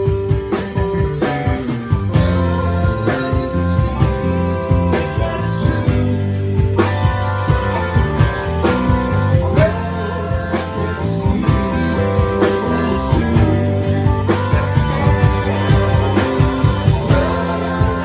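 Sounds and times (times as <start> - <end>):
drum beat: 0.0 - 18.0
guitar: 0.0 - 18.0
live band playing: 0.0 - 18.0
steady bass line: 0.0 - 18.0.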